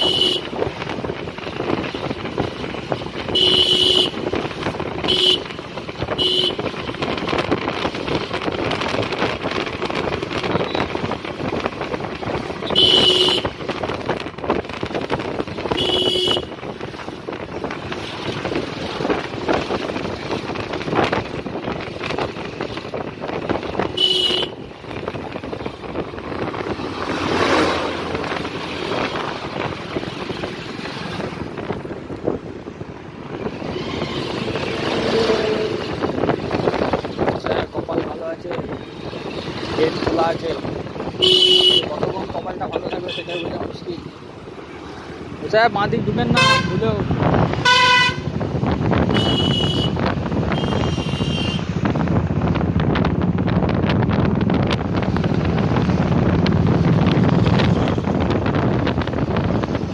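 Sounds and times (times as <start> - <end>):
motorcycle engine and road noise: 0.0 - 59.9
wind buffeting microphone: 0.0 - 59.9.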